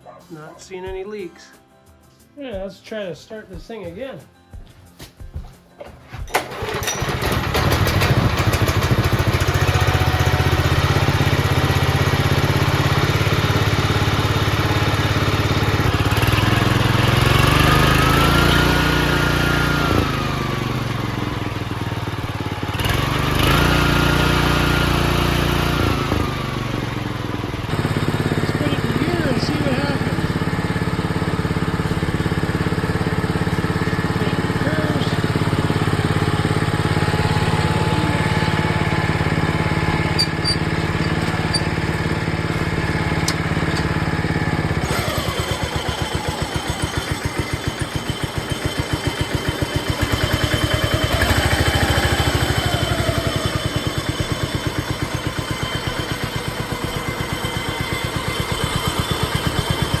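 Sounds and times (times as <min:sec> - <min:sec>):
lawn tractor engine running: 0:05.8 - 1:00.0.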